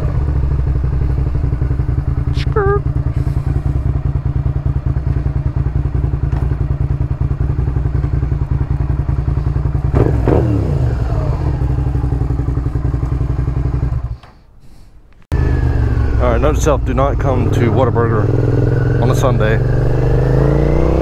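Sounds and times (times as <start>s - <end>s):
motorcycle engine running: 0.0s - 14.2s, 15.3s - 21.0s.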